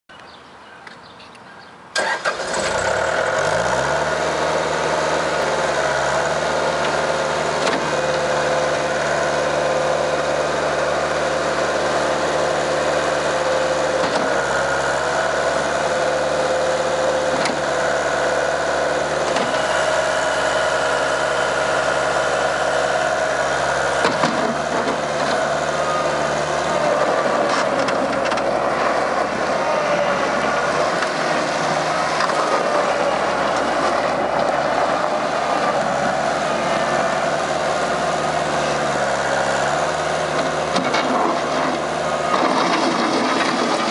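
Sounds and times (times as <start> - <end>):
diesel engine running: 1.9 - 43.9.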